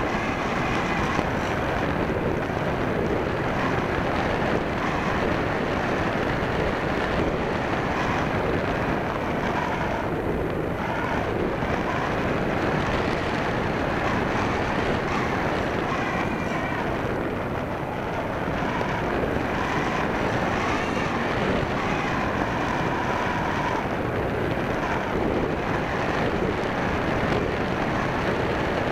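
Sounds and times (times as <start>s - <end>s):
airflow rushing: 0.0s - 28.9s.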